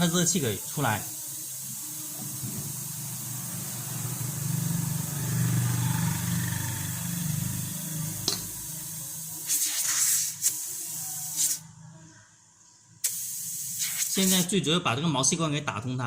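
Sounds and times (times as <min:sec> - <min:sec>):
torch flame hissing: 0:00.0 - 0:11.7, 0:13.0 - 0:14.6.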